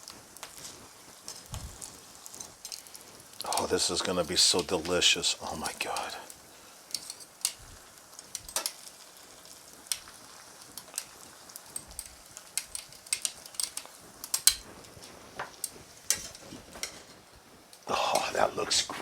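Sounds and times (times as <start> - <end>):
dough sizzling in hot oil: 0.0 - 19.0
oil crackling and popping: 0.0 - 19.0.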